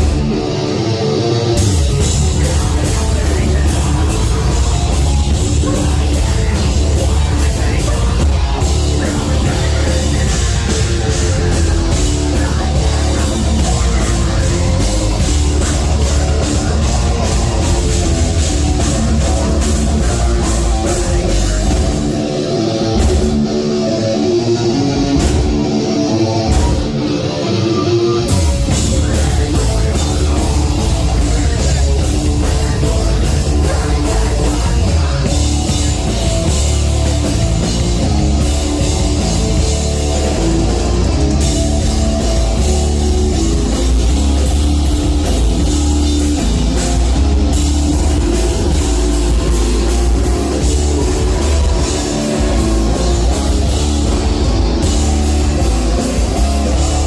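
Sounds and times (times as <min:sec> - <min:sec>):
bass guitar: 0:00.0 - 0:57.0
distorted guitars: 0:00.0 - 0:57.0
drums: 0:00.0 - 0:57.0.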